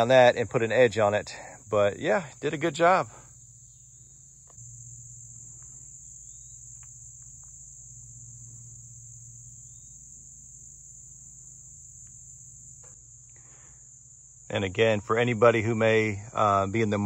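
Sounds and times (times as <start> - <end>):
insects chorus: 0.0 - 17.0
low steady hum: 0.0 - 17.0.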